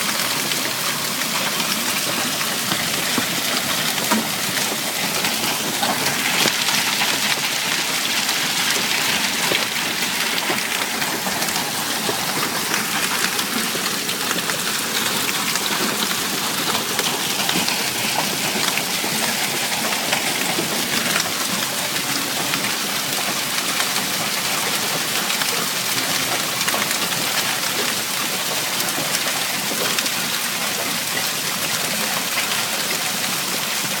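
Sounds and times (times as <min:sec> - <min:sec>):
hail and heavy rain pelting: 0:00.0 - 0:34.0.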